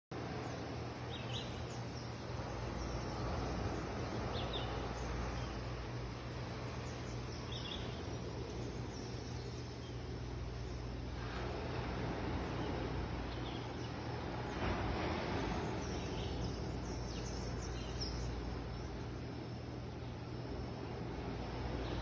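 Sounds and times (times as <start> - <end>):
bird chirping: 0.4 - 11.1, 12.4 - 20.8
sea surf rumbling: 1.8 - 8.8, 9.6 - 19.8, 20.5 - 22.0.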